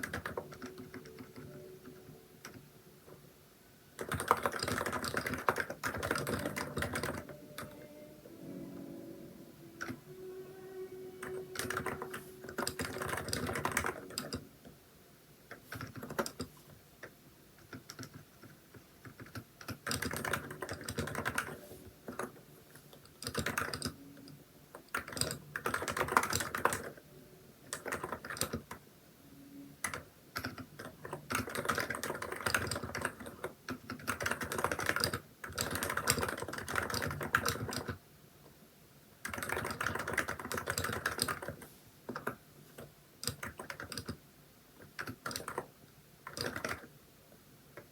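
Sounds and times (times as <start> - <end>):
keyboard typing: 0.0 - 3.2, 4.0 - 8.4, 9.7 - 14.8, 15.5 - 28.8, 29.5 - 38.0, 39.2 - 44.2, 44.8 - 46.9.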